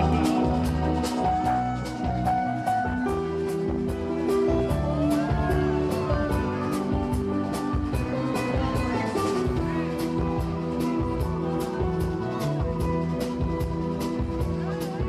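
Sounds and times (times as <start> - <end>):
drum kit beat: 0.0 - 15.0
keyboard notes: 0.0 - 15.0.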